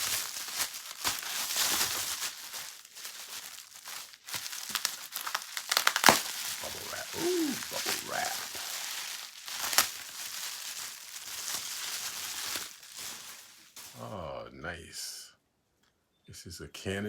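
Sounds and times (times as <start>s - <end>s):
packaging crinkling: 0.0s - 14.1s.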